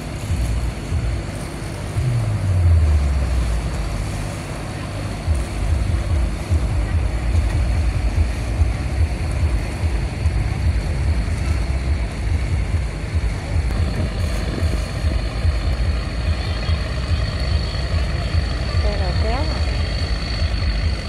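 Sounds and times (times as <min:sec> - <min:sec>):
diesel engine rumbling: 0:00.0 - 0:21.0.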